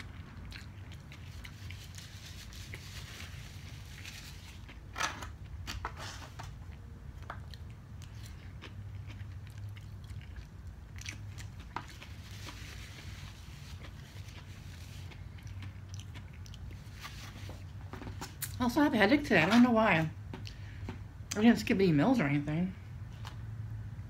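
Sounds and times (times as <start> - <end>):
chewing and crunching food: 0.0 - 18.7, 19.4 - 21.4
low steady hum: 0.0 - 24.0.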